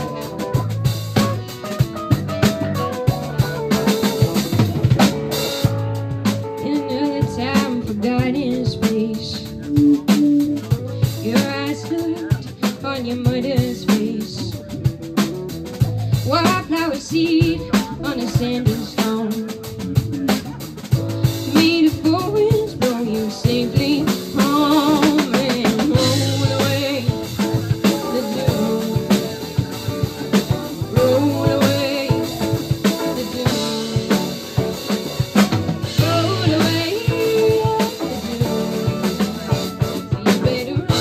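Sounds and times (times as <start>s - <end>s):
saxophone: 0.0s - 8.4s, 16.3s - 41.0s
drum kit: 0.0s - 41.0s
electric guitars: 0.0s - 41.0s.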